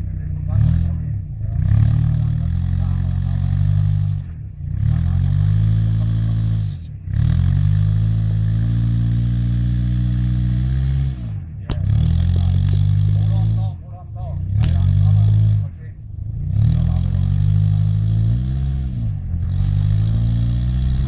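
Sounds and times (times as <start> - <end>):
suv engine revving: 0.0 - 21.0.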